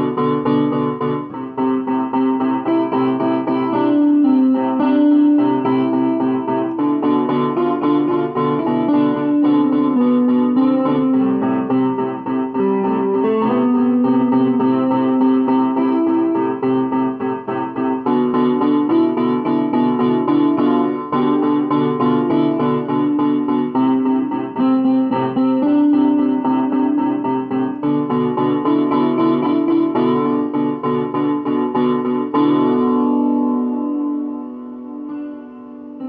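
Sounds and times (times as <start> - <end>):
piano piece: 0.0 - 36.0.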